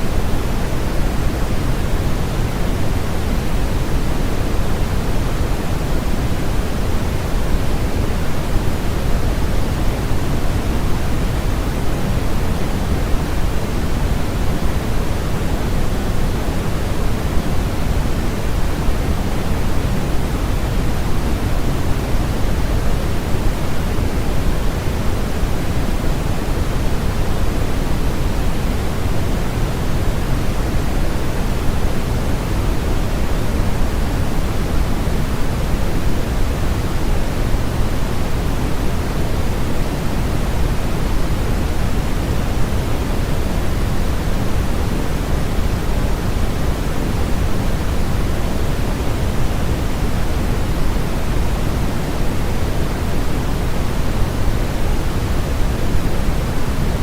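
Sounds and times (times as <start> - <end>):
steady low-weighted hiss: 0.0 - 57.0.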